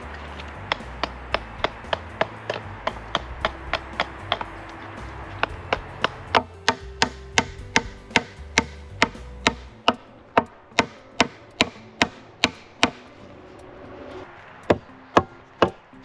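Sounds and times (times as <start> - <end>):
faint background music: 0.0 - 16.0.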